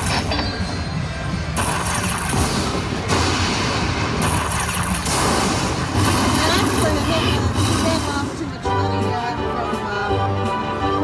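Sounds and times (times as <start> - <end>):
slot machine sounds and music: 0.0 - 11.0.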